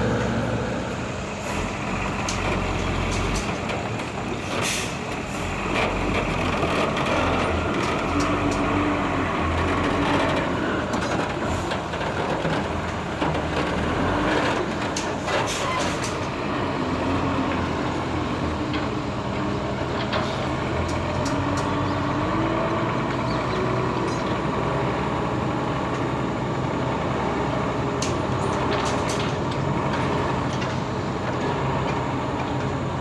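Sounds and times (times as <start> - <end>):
heavy machinery diesel engines: 0.0 - 33.0.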